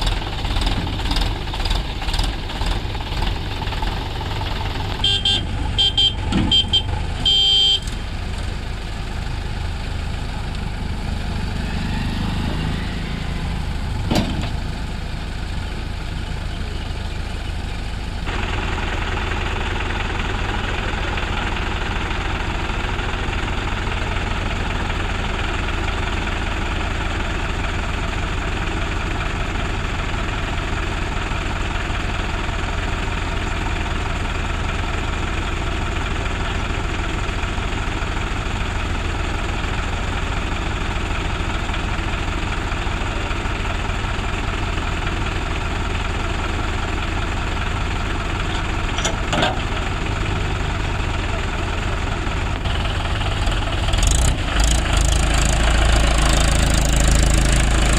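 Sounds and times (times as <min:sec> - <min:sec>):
diesel tractor engine idling: 0:00.0 - 0:57.9.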